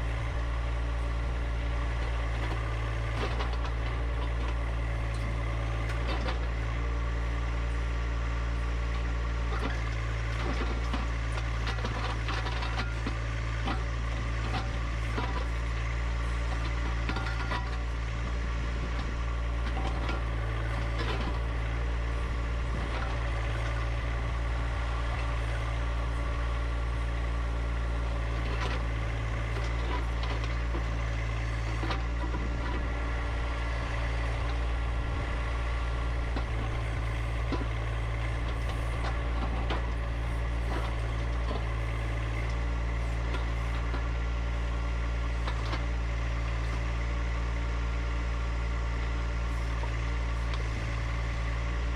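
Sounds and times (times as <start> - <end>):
diesel tractor engine running: 0.0 - 51.9.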